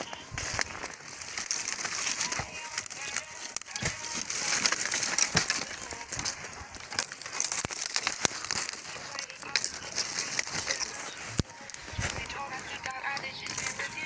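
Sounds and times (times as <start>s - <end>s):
dry sticks crackling and snapping: 0.0s - 14.0s.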